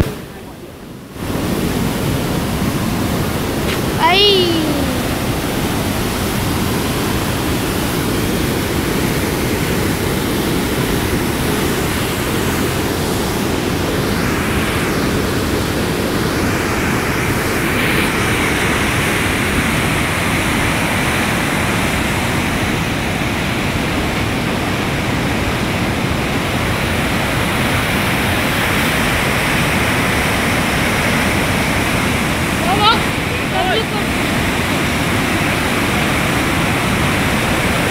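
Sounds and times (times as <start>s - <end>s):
flooded river rushing: 0.0s - 37.9s.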